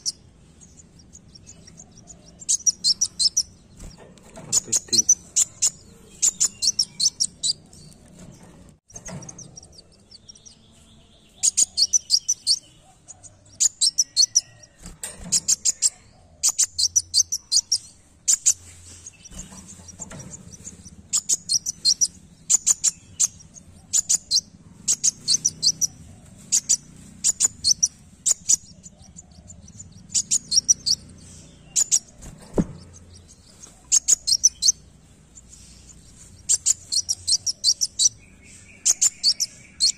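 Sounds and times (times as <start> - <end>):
sunbird high stuttering chirps: 0.0 - 12.7, 13.5 - 39.9.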